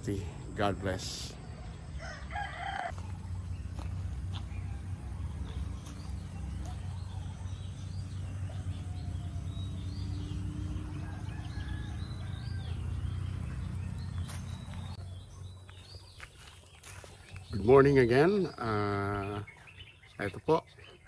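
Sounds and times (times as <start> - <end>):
low outdoor rumble: 0.0 - 18.8
birds chirping: 0.0 - 21.0.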